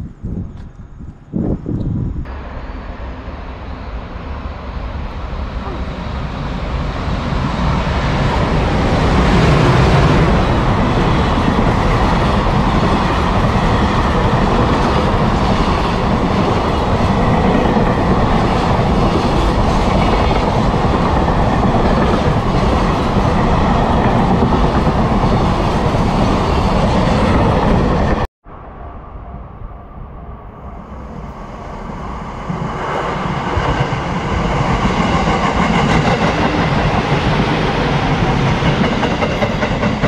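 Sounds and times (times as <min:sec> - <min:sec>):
electric locomotive passing: 0:01.0 - 0:40.0.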